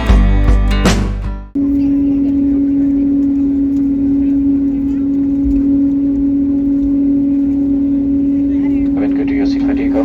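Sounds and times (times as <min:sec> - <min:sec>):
aircraft engine hum in cabin: 0:01.5 - 0:10.0.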